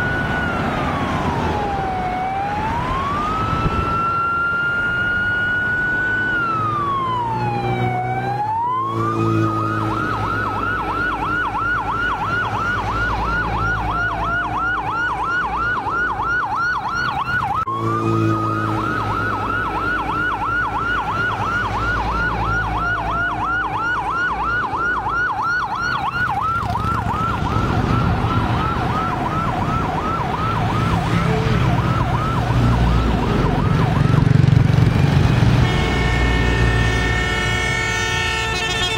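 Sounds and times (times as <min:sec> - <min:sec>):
siren fast yelp: 0:00.0 - 0:34.5
minibus engines passing: 0:00.0 - 0:38.9
siren slow wail: 0:00.0 - 0:38.9.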